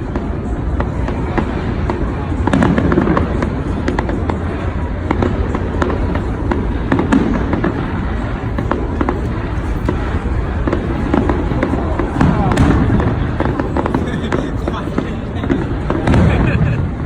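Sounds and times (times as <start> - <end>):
fireworks bursts rumbling: 0.0 - 17.0
fireworks crackling: 0.0 - 17.0.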